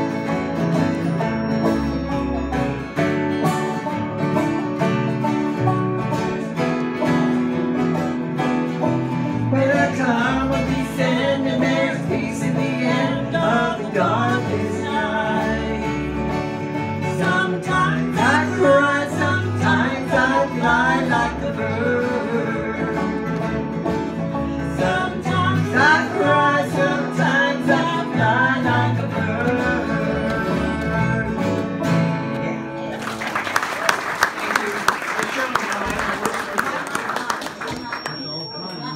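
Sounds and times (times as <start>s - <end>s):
acoustic guitars and banjo playing: 0.0s - 36.3s.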